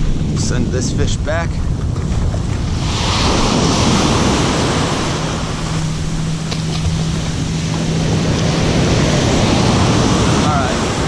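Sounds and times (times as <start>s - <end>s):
low steady hum: 0.0s - 11.0s
ocean surf washing: 0.0s - 11.0s.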